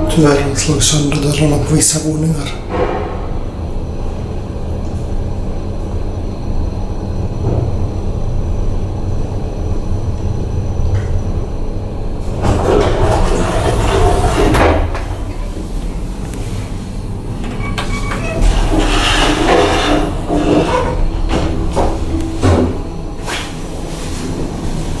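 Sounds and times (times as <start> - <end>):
elevator running low rumble: 0.0 - 25.0.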